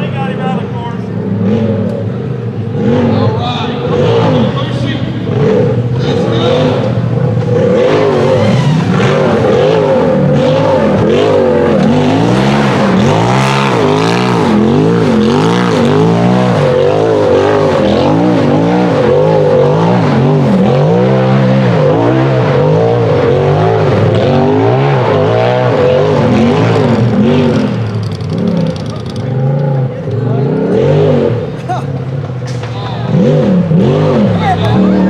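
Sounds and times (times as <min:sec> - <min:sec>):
buggy engine revving hard: 0:00.0 - 0:35.0.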